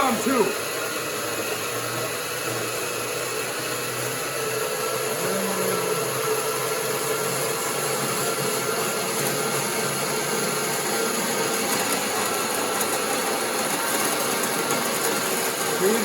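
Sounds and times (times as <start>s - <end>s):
band saw cutting steel: 0.0s - 16.0s.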